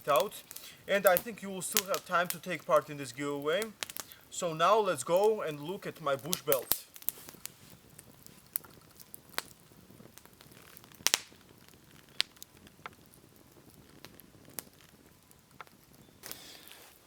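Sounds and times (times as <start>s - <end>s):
sharp pops from fire: 0.0s - 17.0s
wood fire crackling: 0.0s - 17.0s.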